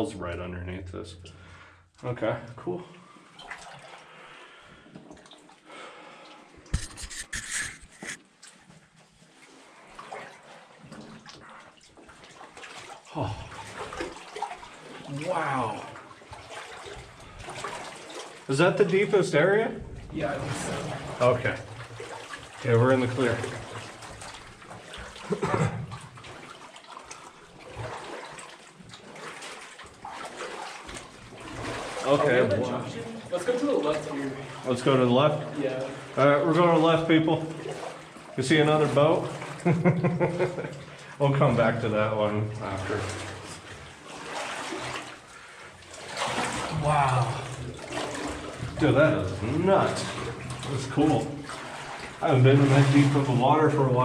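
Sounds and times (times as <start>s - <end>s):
water sloshing around wading legs: 2.8s - 54.0s.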